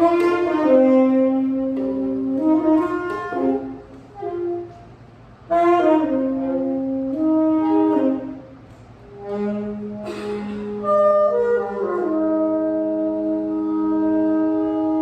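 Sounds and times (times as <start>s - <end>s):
saxophones playing held notes: 0.0s - 15.0s.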